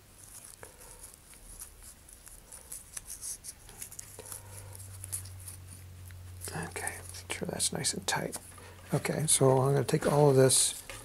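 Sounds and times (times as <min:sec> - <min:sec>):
low steady hum: 0:00.0 - 0:11.0
soft rustling: 0:00.0 - 0:11.0.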